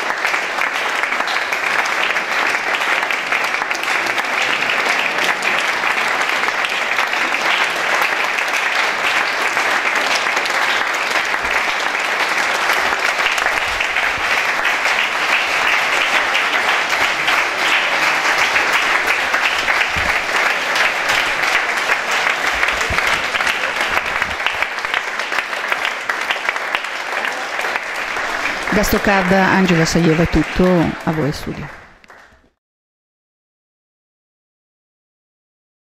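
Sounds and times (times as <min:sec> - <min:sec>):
audience applauding: 0:00.0 - 0:32.6.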